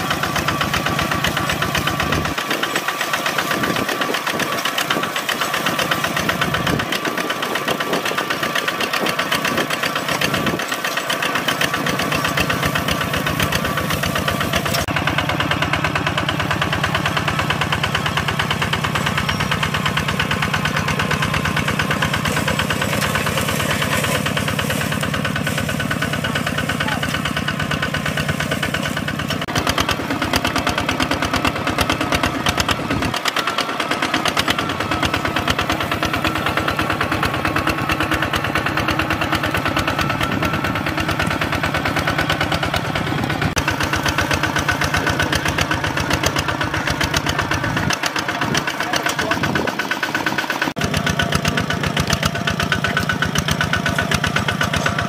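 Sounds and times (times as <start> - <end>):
diesel tractor engine chugging: 0.0 - 55.0.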